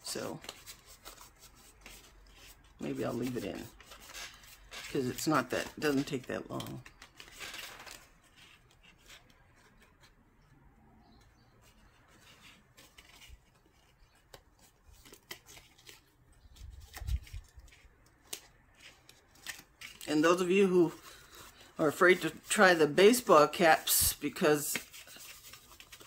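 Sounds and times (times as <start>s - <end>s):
cardstock rustling and clicking: 0.3s - 10.2s, 11.6s - 23.2s, 24.6s - 26.0s.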